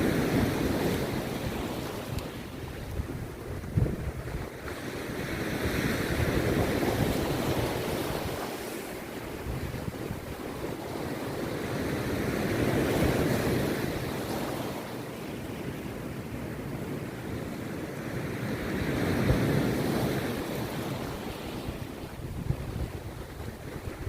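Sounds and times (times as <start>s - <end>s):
wind buffeting microphone: 0.0s - 14.5s, 18.5s - 24.0s
sea surf breaking: 0.0s - 24.0s.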